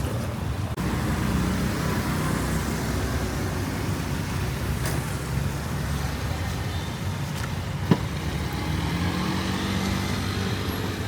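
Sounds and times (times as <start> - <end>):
cars and motorbikes passing: 0.0 - 11.0.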